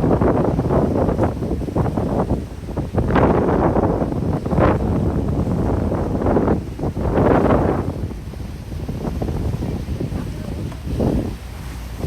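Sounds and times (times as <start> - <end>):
boat engine low rumble: 0.0 - 12.0
wind gusting against microphone: 0.0 - 12.0.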